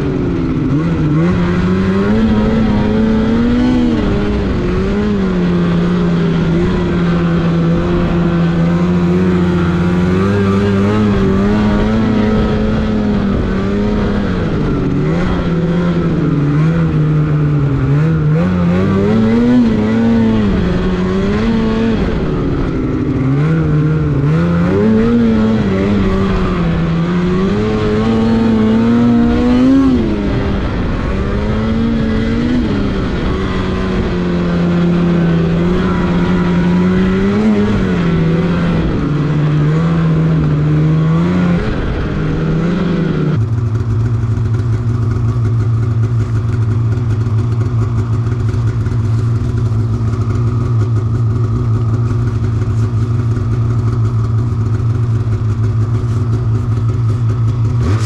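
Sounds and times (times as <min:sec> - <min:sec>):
snowmobile engine: 0:00.0 - 0:58.0.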